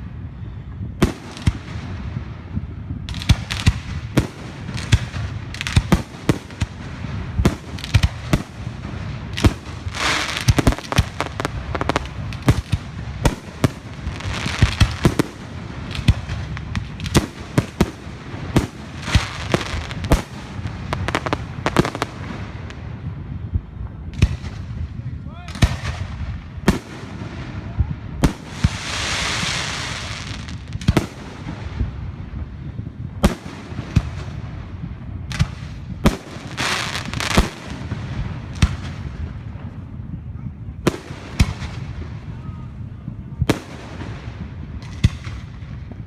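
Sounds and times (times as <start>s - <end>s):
fireworks banging and crackling: 0.0s - 46.0s.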